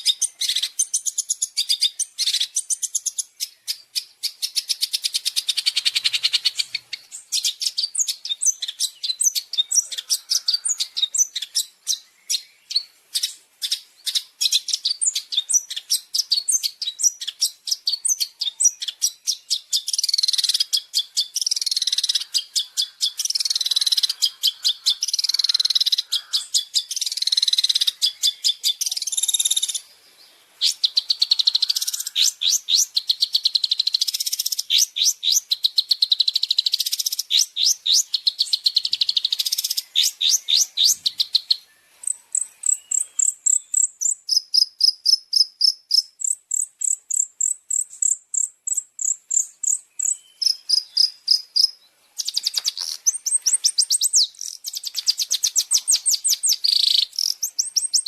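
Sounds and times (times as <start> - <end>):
fast high songbird chirps: 0.0 - 29.9, 30.6 - 58.0.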